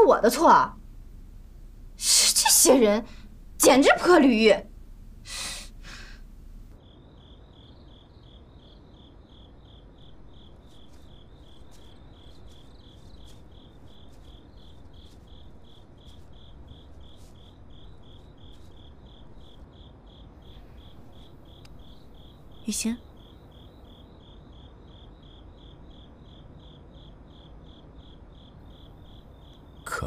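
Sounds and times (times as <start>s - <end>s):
low background hum: 0.0s - 8.4s, 9.0s - 24.1s, 28.0s - 30.0s
crickets chirping: 0.0s - 30.0s.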